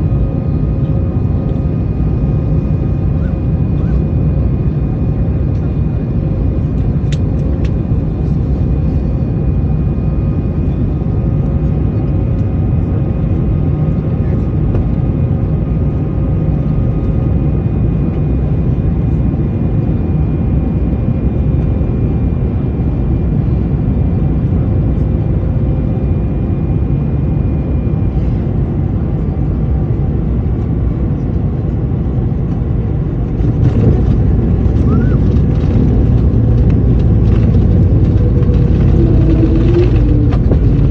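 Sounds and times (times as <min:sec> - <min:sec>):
faint engine whines: 0:00.0 - 0:40.9
jet engines rumbling: 0:00.0 - 0:40.9.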